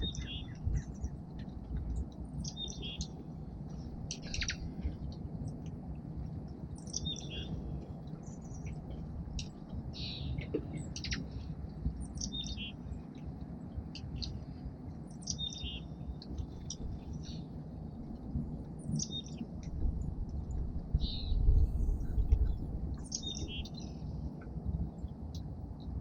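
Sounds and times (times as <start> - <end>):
small songbirds chirping: 0.0 - 5.7, 6.3 - 24.3
low background rumble: 0.0 - 26.0.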